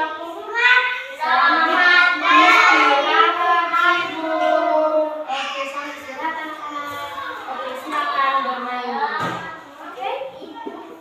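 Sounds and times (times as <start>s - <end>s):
children singing: 0.0s - 9.5s.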